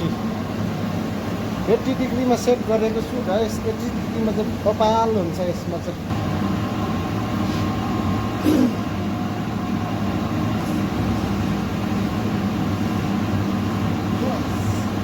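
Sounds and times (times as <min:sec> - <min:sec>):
welding machine hum: 0:00.0 - 0:15.0.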